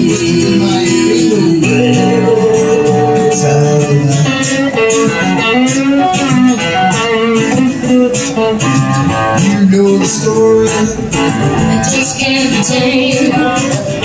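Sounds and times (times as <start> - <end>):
bending guitar notes: 0.0 - 14.0
rock band playing: 0.0 - 14.0.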